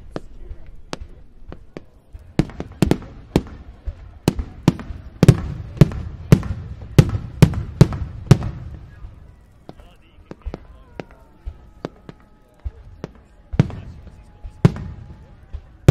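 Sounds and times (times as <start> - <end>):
fireworks bursting with bangs: 0.0 - 15.9.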